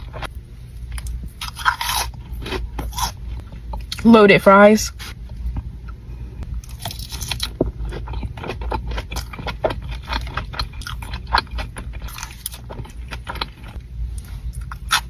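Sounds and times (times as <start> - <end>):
person chewing crunchy food: 0.0 - 4.0, 5.0 - 15.0.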